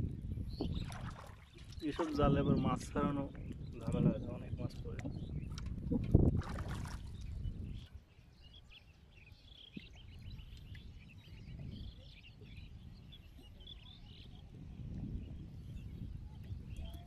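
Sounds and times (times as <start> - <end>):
small birds chirping: 0.3 - 6.1, 6.7 - 17.0.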